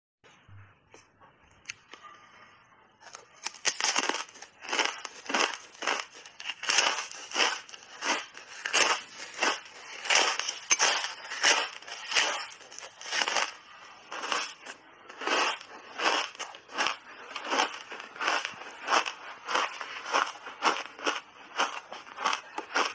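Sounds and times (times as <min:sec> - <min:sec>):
crunching ice bar: 0:03.0 - 0:22.9.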